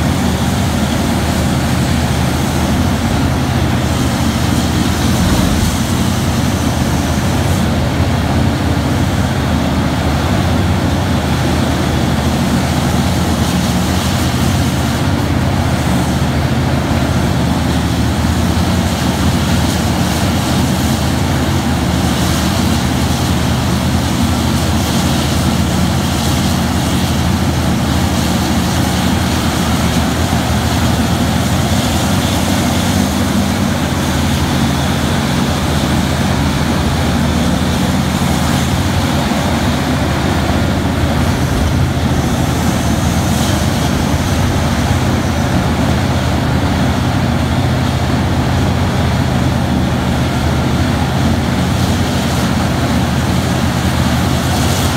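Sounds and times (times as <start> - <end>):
excavator engine drone: 0.0 - 54.9.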